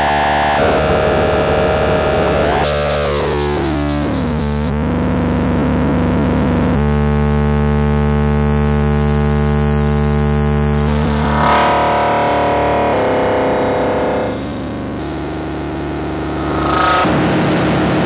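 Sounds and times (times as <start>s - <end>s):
synthesizer electronic drone: 0.0s - 18.0s.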